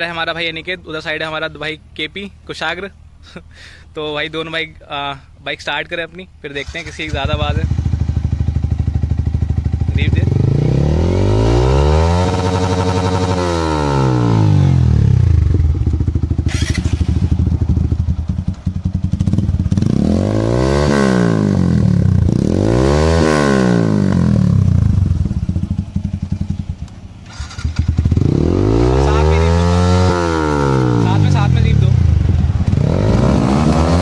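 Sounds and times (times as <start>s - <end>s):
motorcycles idling and revving: 5.4s - 34.0s.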